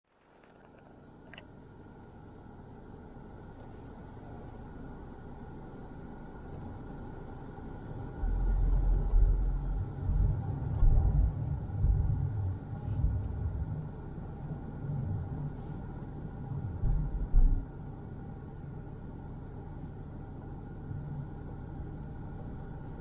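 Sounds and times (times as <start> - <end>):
car road and engine noise: 0.1 - 23.0
uneven low rumble: 3.4 - 23.0.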